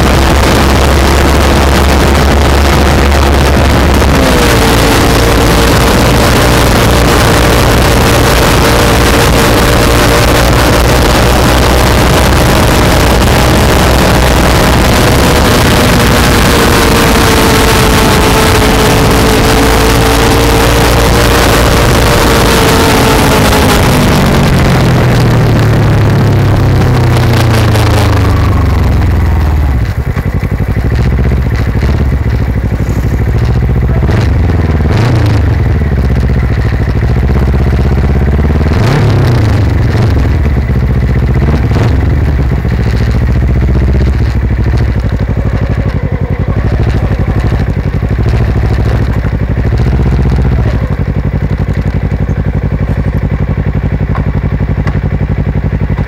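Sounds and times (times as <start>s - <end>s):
motorcycle engine exhaust: 0.0s - 56.0s
wind and road rush: 0.0s - 56.0s.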